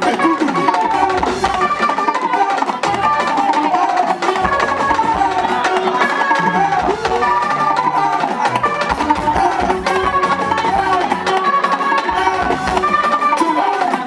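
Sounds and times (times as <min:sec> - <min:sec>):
keyboard melody: 0:00.0 - 0:14.0
live band dance music: 0:00.0 - 0:14.0
rapid drum strokes: 0:00.0 - 0:14.0.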